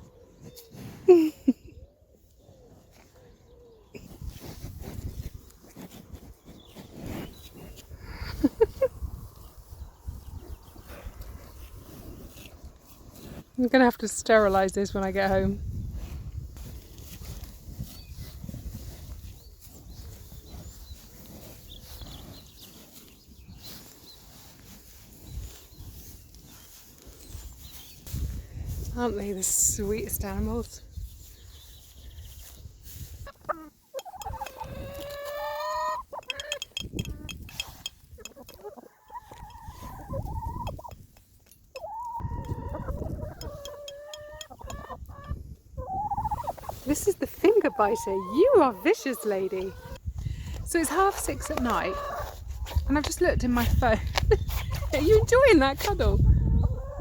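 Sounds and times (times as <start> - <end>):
cows snuffling and licking: 0.0 - 56.4.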